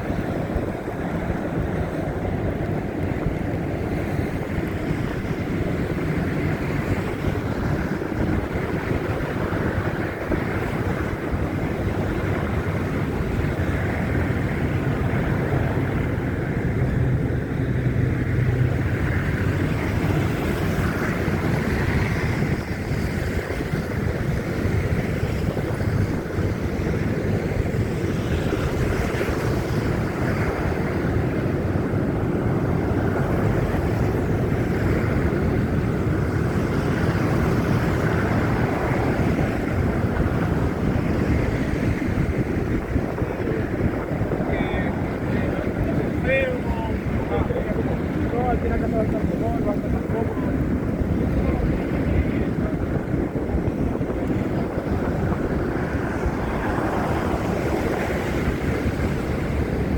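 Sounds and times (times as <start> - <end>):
wind blowing across microphone: 0.0 - 59.9.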